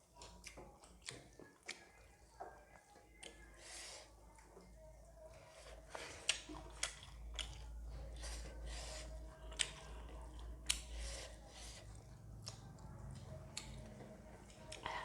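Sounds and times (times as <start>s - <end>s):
person chewing with wet mouth sounds: 0.0s - 15.0s.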